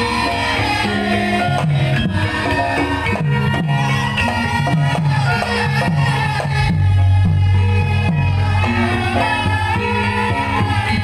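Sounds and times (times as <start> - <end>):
gamelan music: 0.0 - 11.0.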